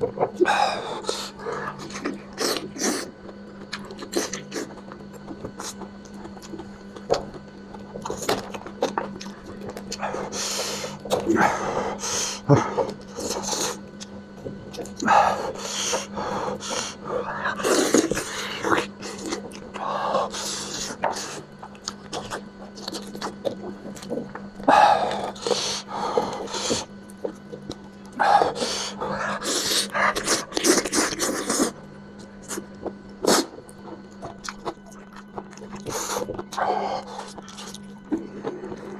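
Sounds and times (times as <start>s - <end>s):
steady low hum: 0.0s - 38.9s
person chewing and slurping: 0.2s - 38.9s.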